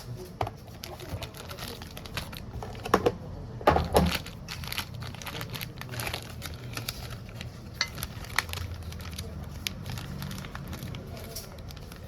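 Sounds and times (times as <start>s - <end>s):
light crinkling and ticking: 0.1s - 2.9s, 4.1s - 12.0s.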